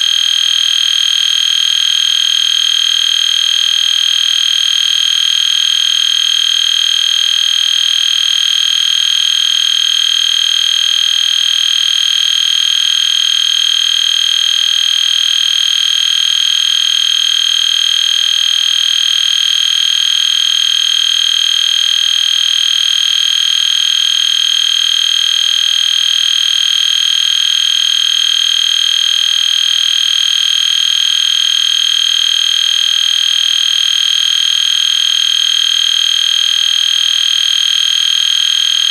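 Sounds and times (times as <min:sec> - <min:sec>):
fire alarm horn steady tone: 0:00.0 - 0:38.9.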